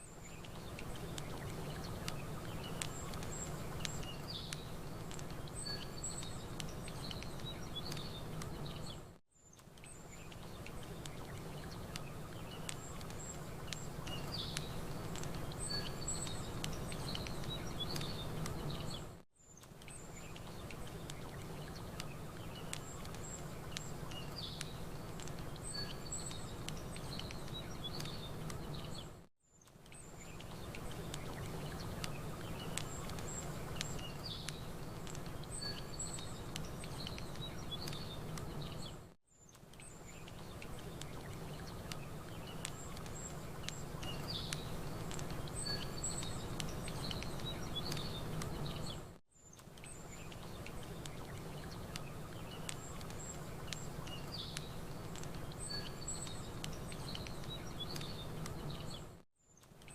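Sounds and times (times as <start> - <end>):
small birds chirping: 0.0 - 59.9
campfire crackling: 0.1 - 59.9.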